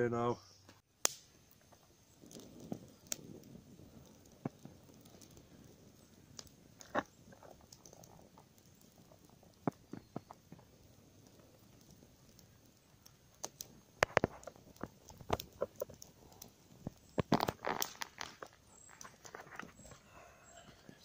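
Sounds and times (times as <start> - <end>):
campfire crackling: 0.1 - 21.0
sharp pops from fire: 0.8 - 21.0
rustling in dry leaves: 1.6 - 21.0.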